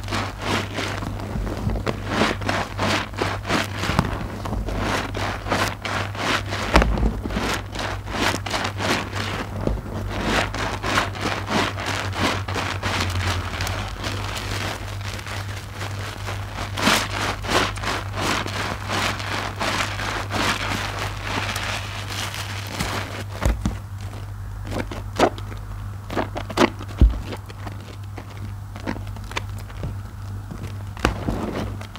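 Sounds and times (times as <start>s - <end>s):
foam bubbles crackling: 0.0s - 31.9s
wet squelching of soapy loofahs: 0.0s - 31.9s.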